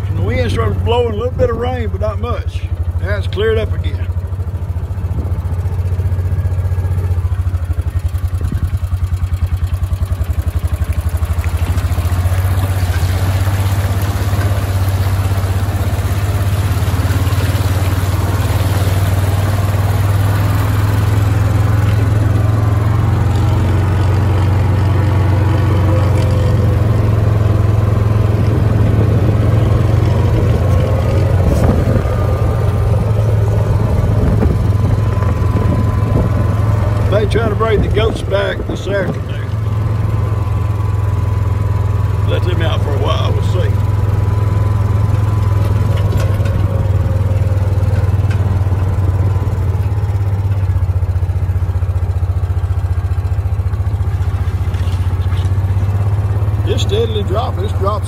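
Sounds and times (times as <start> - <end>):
small vehicle engine running: 0.0 - 58.0
tyres splashing through water: 0.0 - 58.0.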